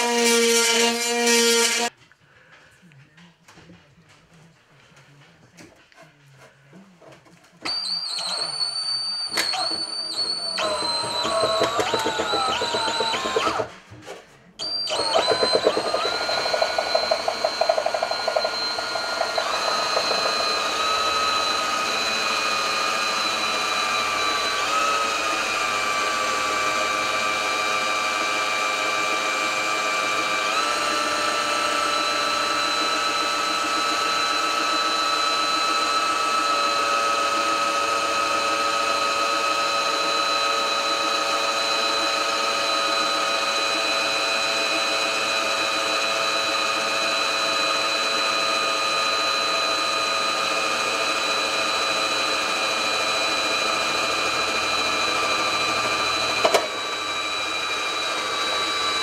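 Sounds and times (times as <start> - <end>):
electric drill whining: 0.0 - 1.9, 7.6 - 13.8, 14.6 - 59.0.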